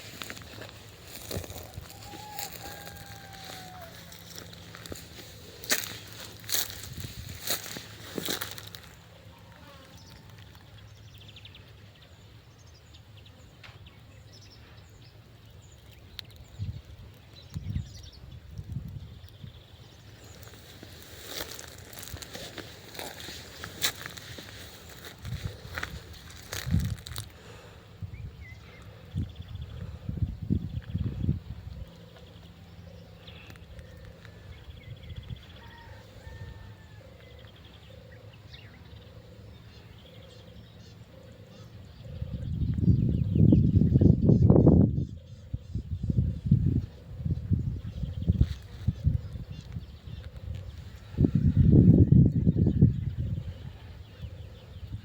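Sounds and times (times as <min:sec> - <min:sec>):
low bird call: 0:00.0 - 0:10.8, 0:20.1 - 0:55.0.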